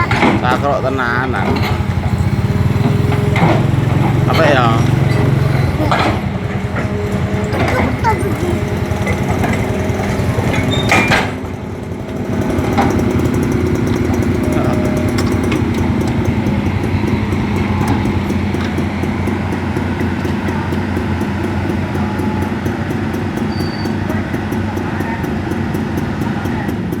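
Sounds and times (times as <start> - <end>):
diesel engine: 0.0 - 27.0
hydraulic breaker rattling: 0.0 - 27.0.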